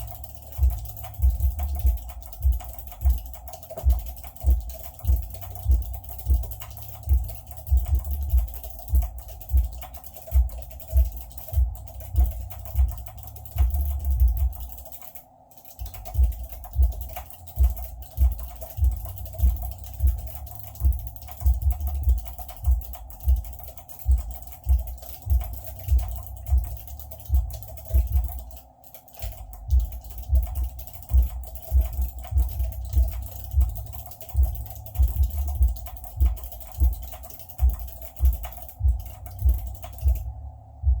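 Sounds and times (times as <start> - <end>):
fast keyboard typing: 0.0 - 40.3.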